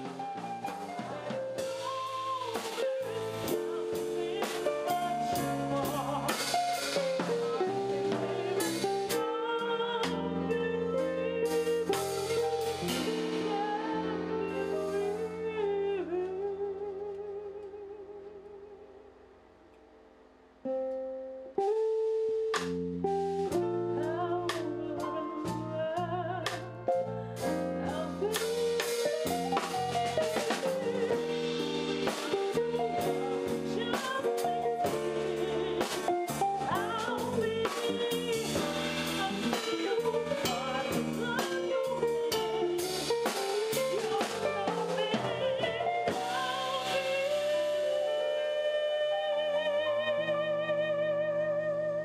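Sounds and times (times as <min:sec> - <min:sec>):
jazz band playing: 0:00.0 - 0:18.7, 0:20.6 - 0:52.0
woman singing: 0:00.0 - 0:18.8, 0:23.9 - 0:52.0.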